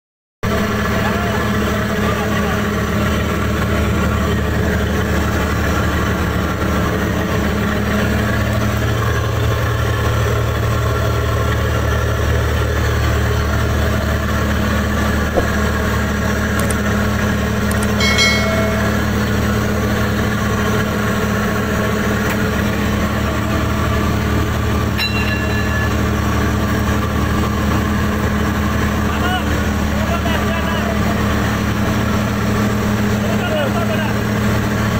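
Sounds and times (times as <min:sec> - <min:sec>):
boat engine droning: 0:00.5 - 0:34.9.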